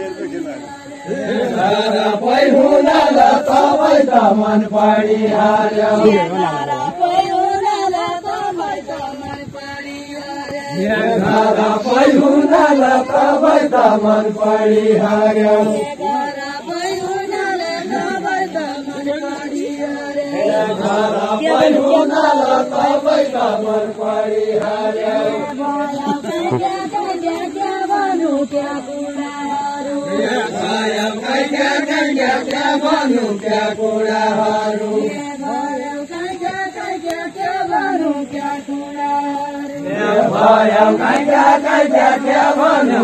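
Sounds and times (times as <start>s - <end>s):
voices chanting in unison: 0.0s - 43.0s.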